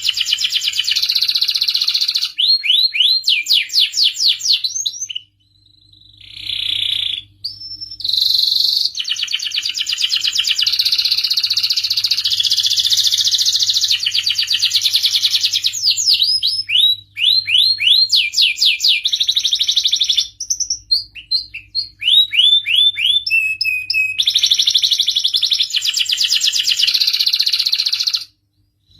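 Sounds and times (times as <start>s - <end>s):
canary singing: 0.0s - 28.9s.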